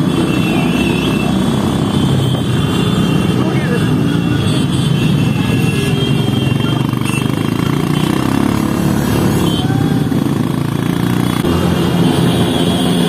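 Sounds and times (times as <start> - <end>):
many motorcycle engines rumbling: 0.0 - 13.0.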